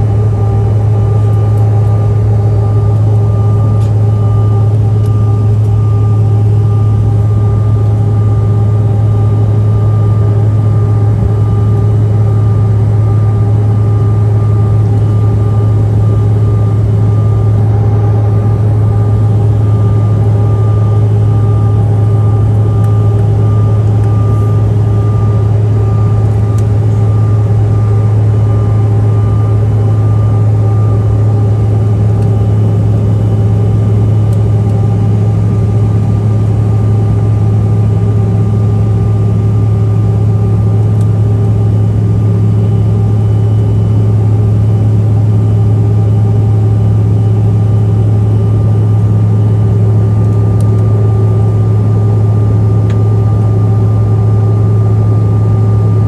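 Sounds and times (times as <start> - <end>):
jet engine cabin drone: 0.0 - 56.0.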